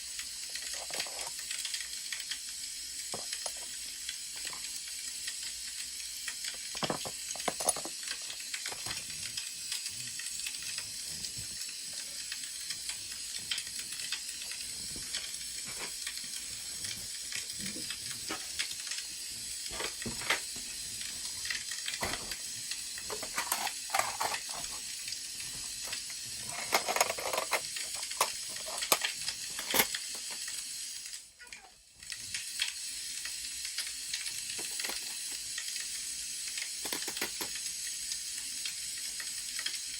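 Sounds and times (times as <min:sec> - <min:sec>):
wood fire hissing: 0:00.0 - 0:39.9.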